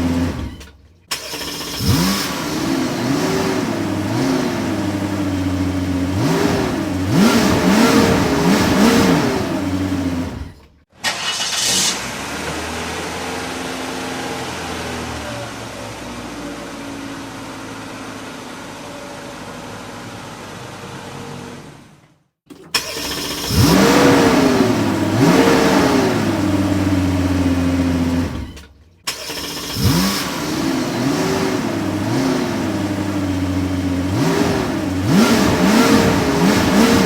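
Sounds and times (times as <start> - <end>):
car engine revving: 0.0 - 22.0, 22.7 - 37.0.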